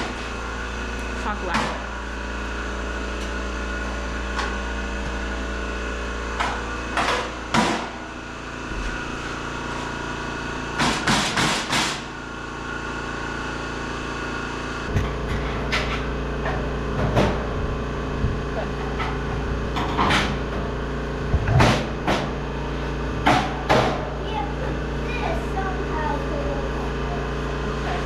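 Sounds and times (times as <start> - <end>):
steady shop hum: 0.0 - 28.0.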